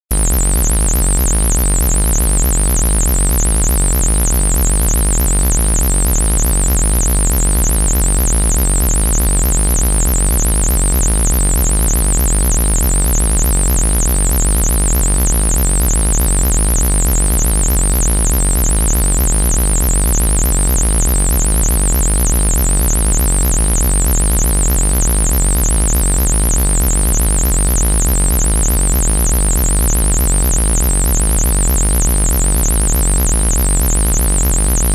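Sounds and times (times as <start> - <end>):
low synthesized buzz: 0.1 - 34.9.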